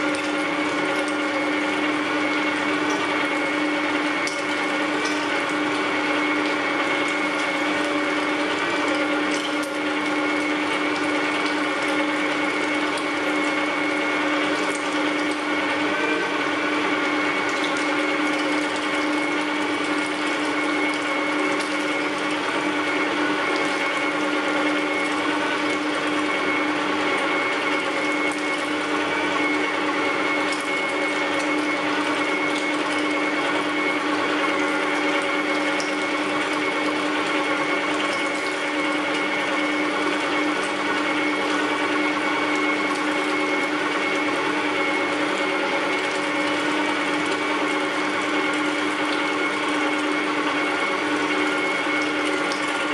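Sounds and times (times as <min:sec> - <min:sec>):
electric meat grinder running: 0:00.0 - 0:52.9.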